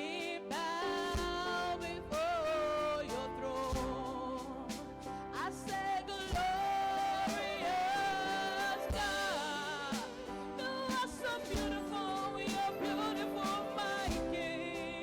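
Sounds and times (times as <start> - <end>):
band accompaniment: 0.0 - 15.0.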